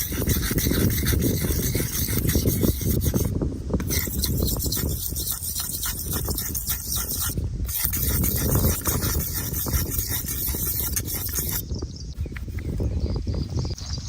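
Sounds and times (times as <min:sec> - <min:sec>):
razor scraping stubble: 0:00.0 - 0:11.6.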